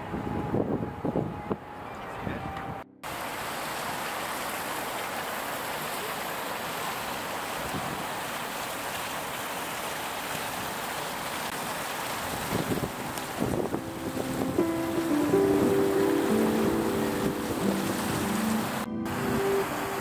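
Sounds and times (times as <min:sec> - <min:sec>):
sea surf on a beach: 0:03.0 - 0:20.0.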